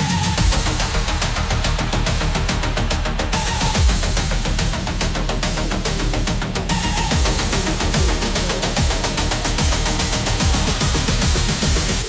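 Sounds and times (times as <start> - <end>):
dark techno music: 0.0 - 12.0
fast hi-hat ticks: 0.0 - 12.0
heavy kick drum thumps: 0.0 - 12.0.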